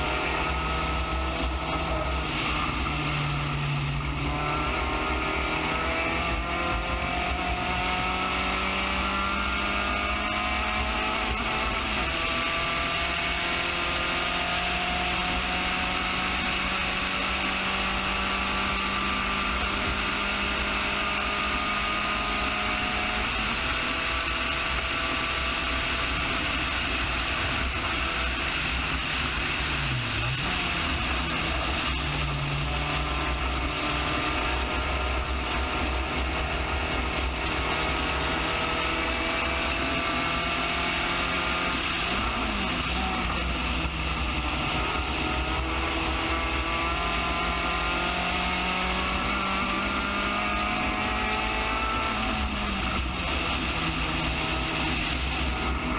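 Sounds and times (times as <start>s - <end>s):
race car engine at high revs: 0.0s - 55.9s
wind and road noise: 0.0s - 55.9s.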